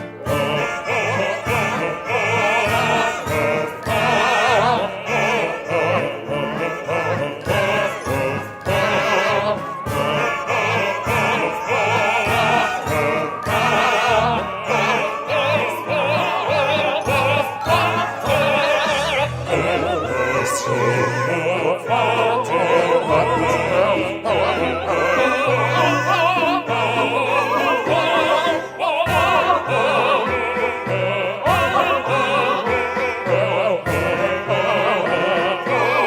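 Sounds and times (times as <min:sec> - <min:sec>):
operatic singing: 0:00.0 - 0:36.0.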